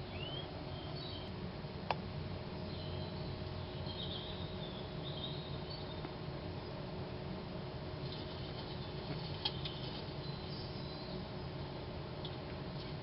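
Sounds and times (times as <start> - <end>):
small birds chirping: 0.0 - 1.4, 2.4 - 6.9, 8.0 - 13.0
steady low hum: 0.0 - 13.0.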